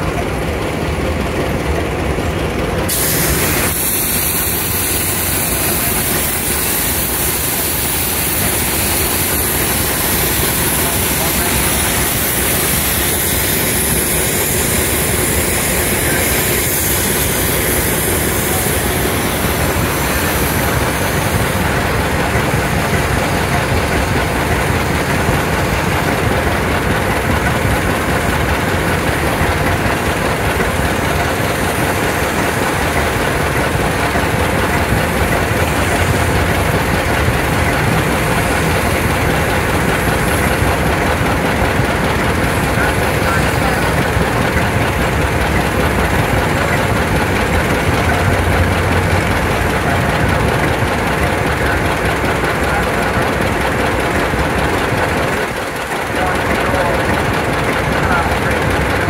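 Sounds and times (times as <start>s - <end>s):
tractor engine running: 0.0s - 59.0s
steam engine hiss: 2.7s - 59.0s.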